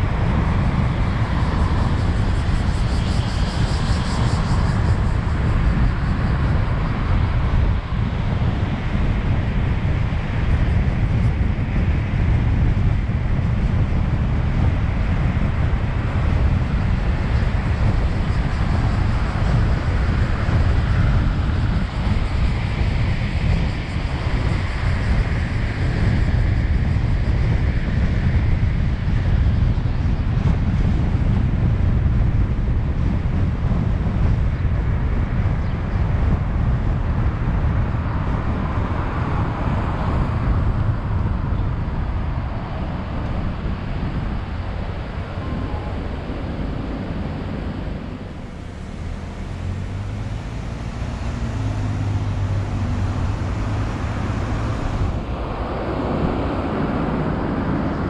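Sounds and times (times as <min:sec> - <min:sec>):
car engine and tyre road noise: 0:00.0 - 0:58.0.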